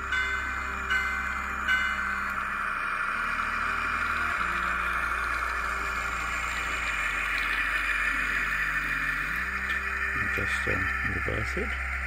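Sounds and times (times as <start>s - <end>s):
simulated diesel engine sound: 0.0s - 12.0s.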